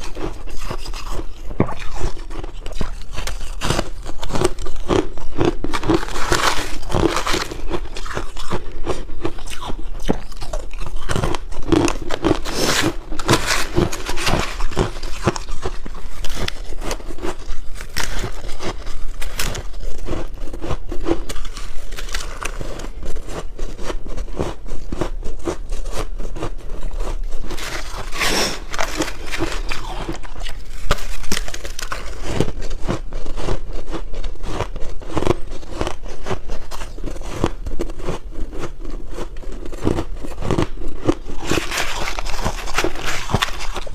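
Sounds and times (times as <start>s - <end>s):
biting and crunching ice: 0.0s - 43.9s.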